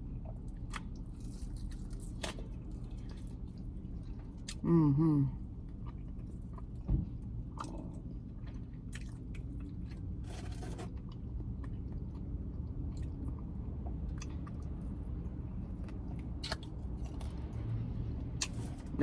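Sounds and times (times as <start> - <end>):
chewing and crunching: 0.0 - 4.6, 5.4 - 19.0.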